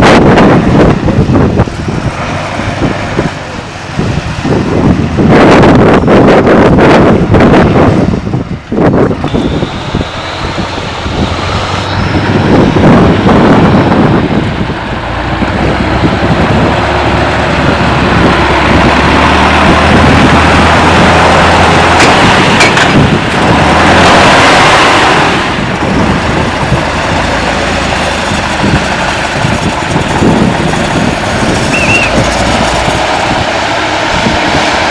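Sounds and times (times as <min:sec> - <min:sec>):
diesel truck engine revving: 0:00.0 - 0:34.9.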